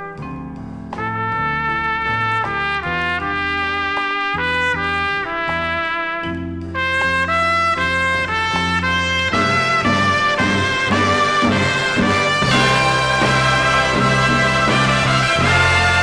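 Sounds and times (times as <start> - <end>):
bass line: 0.0 - 16.0
big band jazz: 0.0 - 16.0
lead trumpet melody: 1.0 - 16.0.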